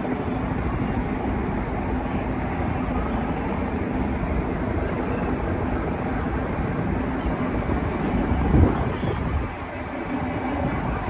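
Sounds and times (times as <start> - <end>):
low engine drone: 0.0 - 11.0
street noise: 0.0 - 11.0.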